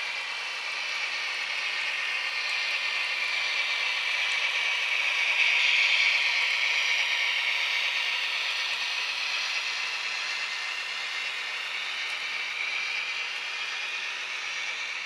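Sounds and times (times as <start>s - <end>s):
model train rolling: 0.0s - 15.0s.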